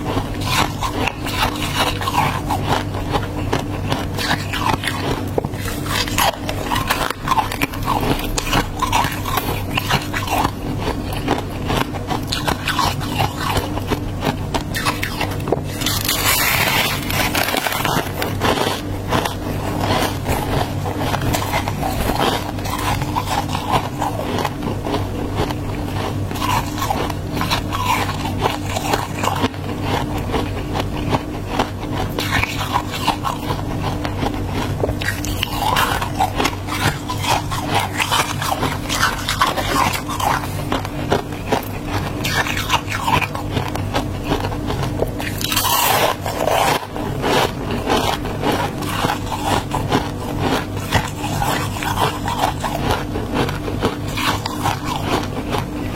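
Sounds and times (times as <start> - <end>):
frost crunching and scraping: 0.0 - 55.9
steady low hum: 0.0 - 55.9.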